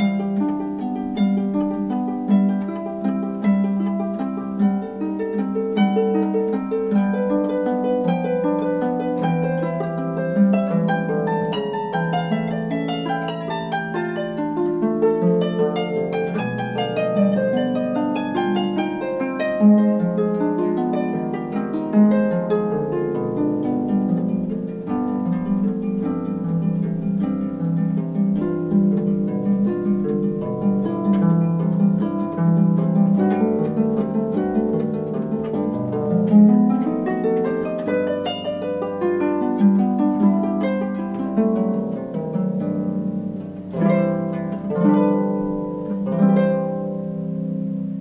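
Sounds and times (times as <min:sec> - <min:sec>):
harp plucked notes: 0:00.0 - 0:48.0.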